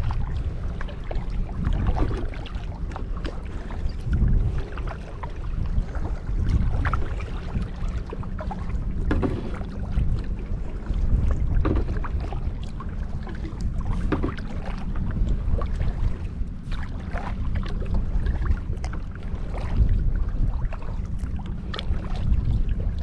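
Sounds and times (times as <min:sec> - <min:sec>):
kayak paddle splashing: 0:00.0 - 0:23.0
wind rumble on microphone: 0:00.0 - 0:23.0.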